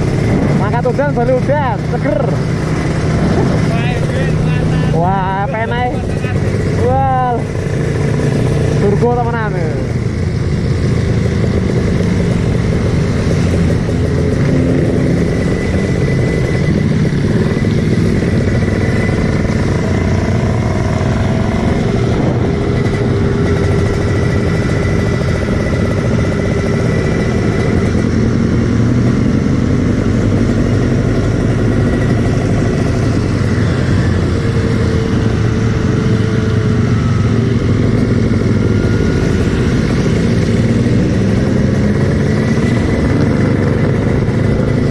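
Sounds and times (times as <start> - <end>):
two-stroke motorcycle engine: 0.0 - 44.9.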